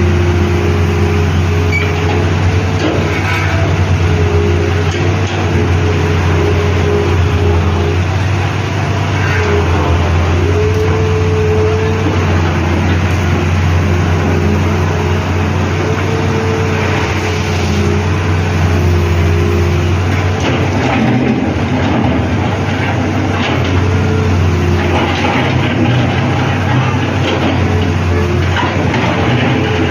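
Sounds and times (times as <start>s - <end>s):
excavator diesel engine humming: 0.0s - 29.9s.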